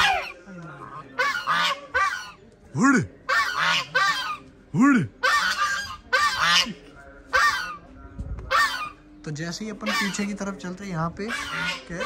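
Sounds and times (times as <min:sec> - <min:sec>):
geese honking: 0:00.0 - 0:04.5, 0:05.2 - 0:07.9, 0:08.5 - 0:09.1, 0:09.7 - 0:12.0.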